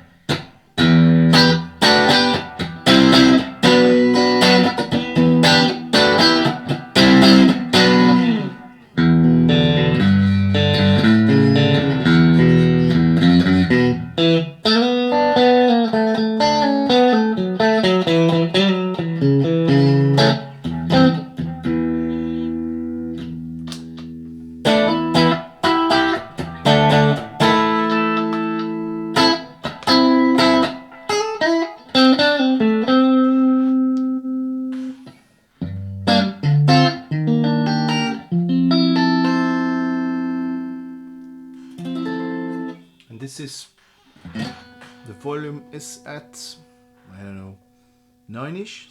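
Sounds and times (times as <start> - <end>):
electric guitar playing: 0.0 - 43.5, 44.1 - 48.6.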